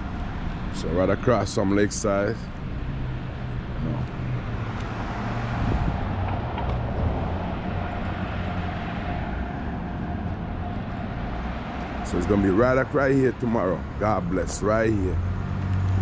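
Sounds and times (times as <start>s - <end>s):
engine rumbling: 0.0s - 16.0s.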